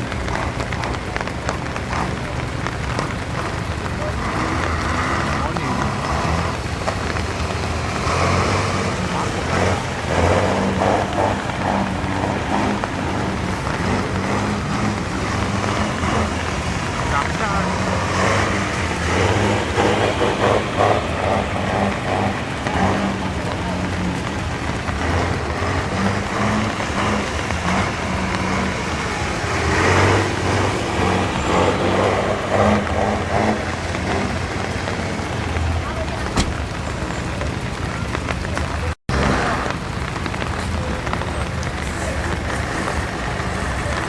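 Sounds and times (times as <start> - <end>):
dense rushing noise: 0.0 - 44.0
truck engine running: 0.0 - 44.0.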